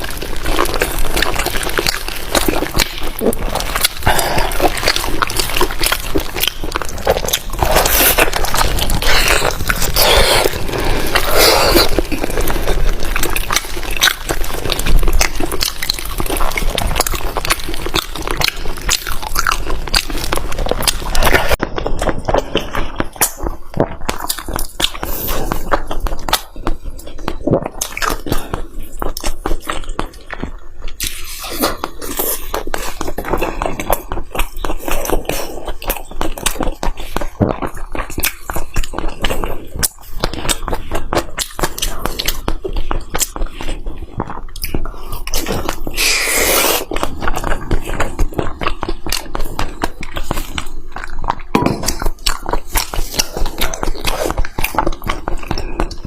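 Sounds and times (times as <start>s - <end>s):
chewing and biting meat: 0.0s - 56.0s.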